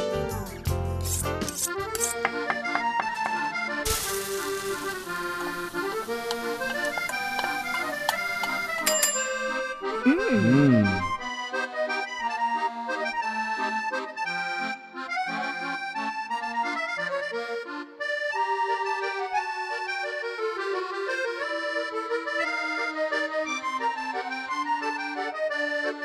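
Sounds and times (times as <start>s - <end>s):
instrumental theme music: 0.0s - 26.0s.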